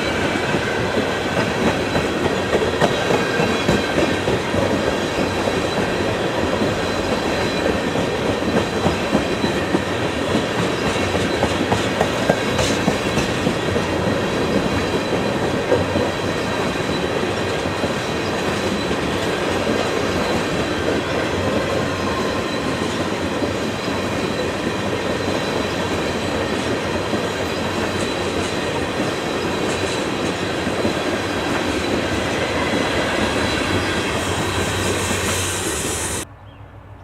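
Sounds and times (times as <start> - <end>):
train wheels rushing on rails: 0.0 - 36.3.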